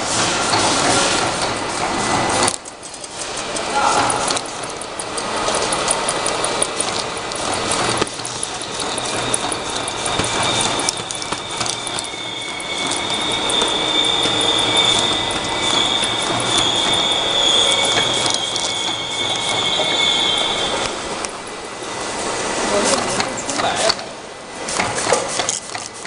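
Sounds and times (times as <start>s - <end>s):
bottles rattling on conveyor: 0.0s - 21.6s, 24.7s - 26.0s
machine high whine: 0.0s - 24.6s.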